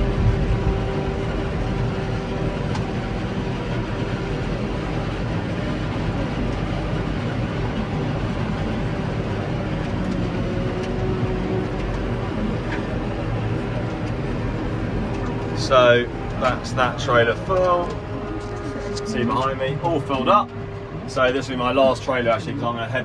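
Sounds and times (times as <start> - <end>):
tractor and harvester droning: 0.0 - 23.0.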